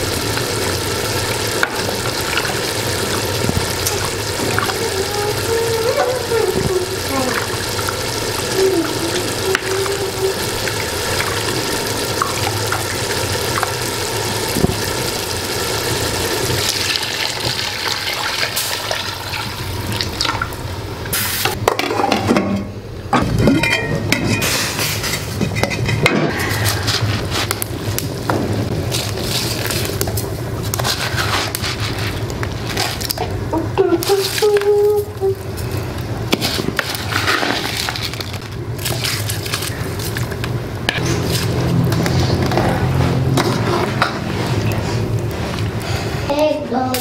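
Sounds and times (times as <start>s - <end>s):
broth boiling: 0.0s - 47.0s.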